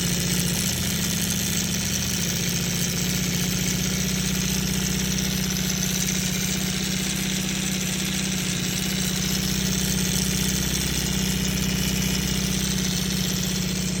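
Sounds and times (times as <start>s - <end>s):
motorcycle engine idling with a rattle: 0.0s - 14.0s.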